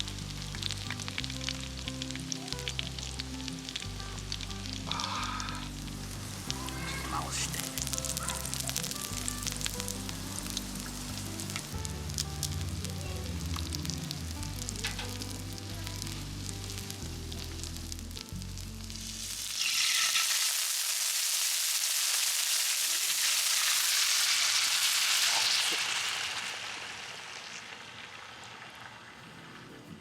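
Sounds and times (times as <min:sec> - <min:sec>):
food sizzling on griddle: 0:00.0 - 0:29.6.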